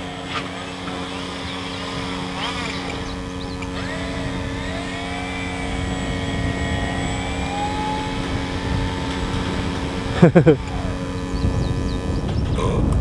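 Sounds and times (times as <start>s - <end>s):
model plane motor whine: 0.0s - 12.6s
steady low hum: 0.0s - 13.0s.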